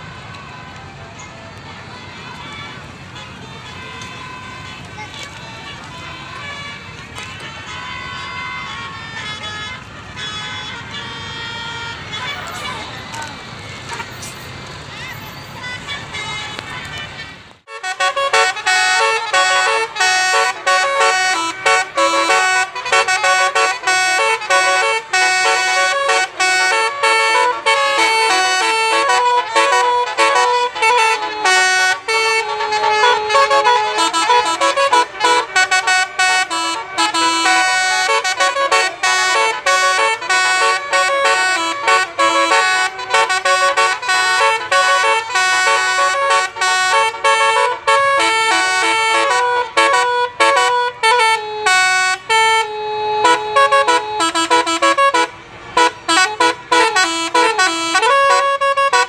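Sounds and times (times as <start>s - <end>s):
musical bus horn playing a tune: 0.0s - 59.0s.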